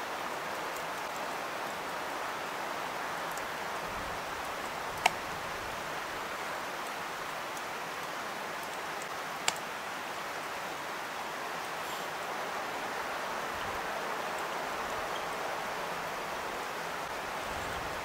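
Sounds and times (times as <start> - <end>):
woodland background hiss: 0.0 - 18.0.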